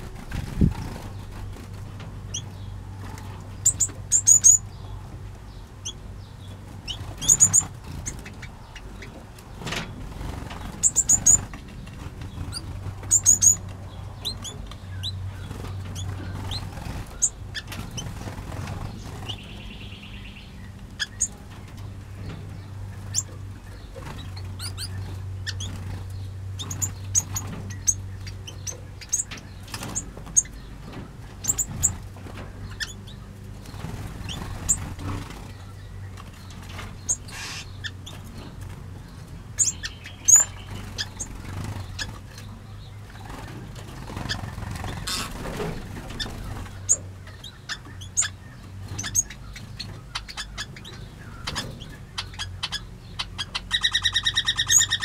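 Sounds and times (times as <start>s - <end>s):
steady low hum: 0.0s - 55.0s
finches chirping: 2.3s - 55.0s.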